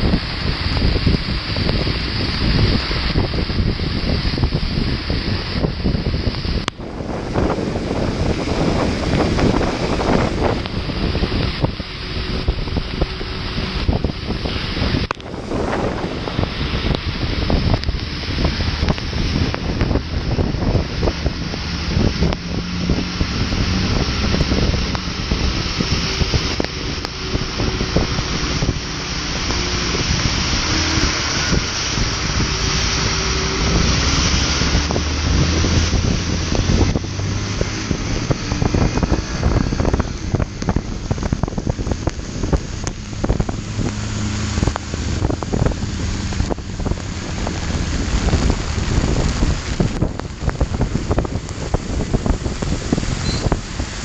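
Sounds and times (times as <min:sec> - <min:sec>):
rain spattering on microphone: 0:00.0 - 0:54.0
wind rushing over microphone: 0:00.0 - 0:54.0.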